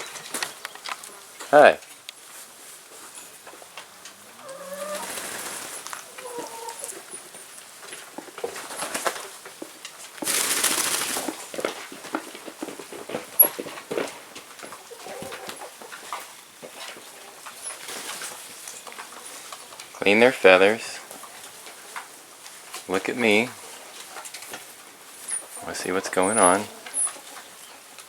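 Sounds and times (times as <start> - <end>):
hens clucking: 3.4 - 28.0.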